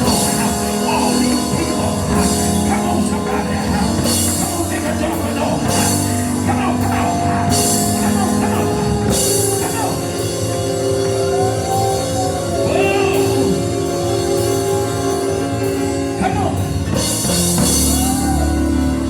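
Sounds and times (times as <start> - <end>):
people singing or shouting: 0.0 - 16.4, 17.6 - 19.0
drums and cymbals: 0.0 - 19.0
live church band music: 0.0 - 19.0
organ-like held chords: 0.0 - 19.0.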